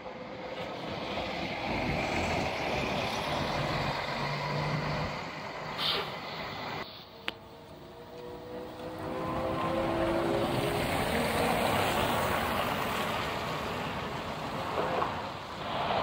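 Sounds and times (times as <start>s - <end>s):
bus diesel engine passing: 0.0s - 16.0s.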